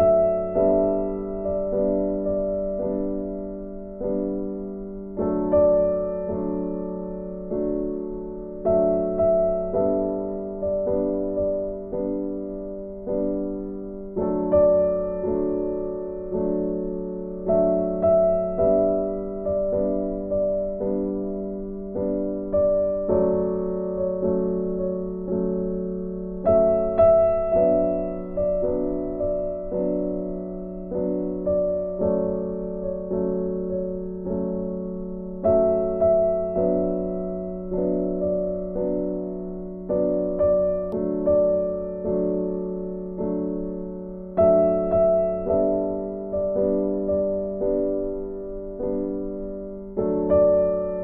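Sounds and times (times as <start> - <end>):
slow gentle piano chords: 0.0 - 51.0.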